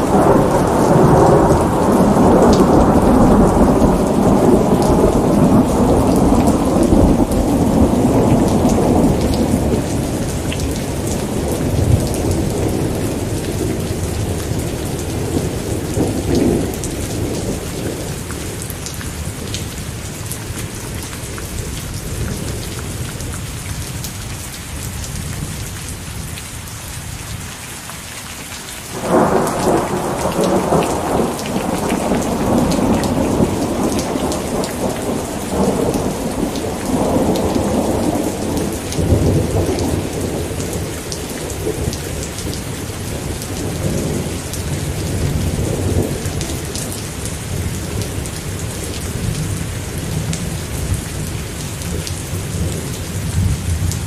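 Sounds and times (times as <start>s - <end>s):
thunder rumbling: 0.0s - 19.8s, 28.9s - 54.0s
steady rain: 0.0s - 54.0s.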